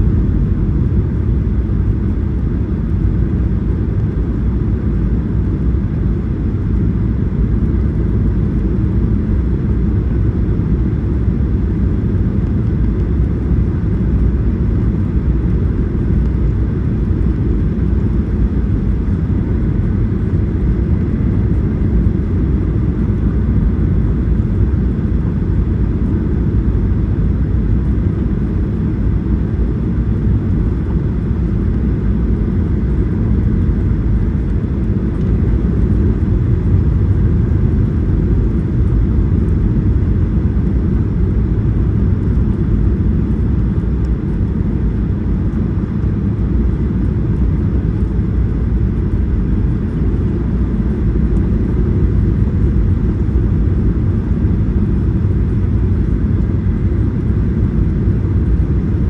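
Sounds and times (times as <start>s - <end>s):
jet engines and rushing air: 0.0s - 59.0s.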